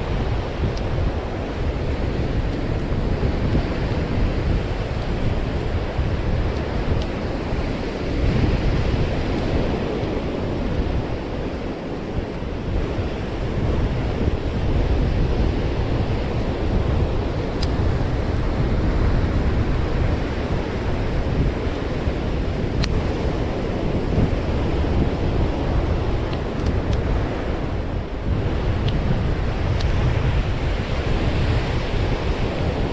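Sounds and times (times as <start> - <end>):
surf washing on beach: 0.0 - 32.9
wind buffeting microphone: 0.0 - 32.9.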